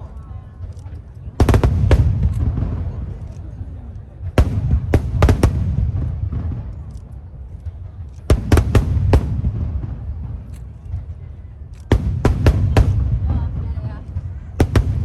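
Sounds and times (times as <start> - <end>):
fireworks bangs: 0.6 - 15.0.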